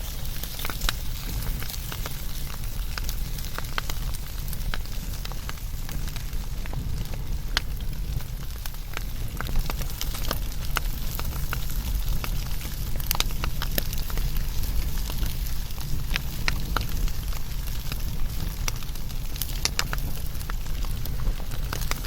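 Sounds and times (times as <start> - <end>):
fire crackles and pops: 0.0 - 22.0
low rumble of flame: 0.0 - 22.0.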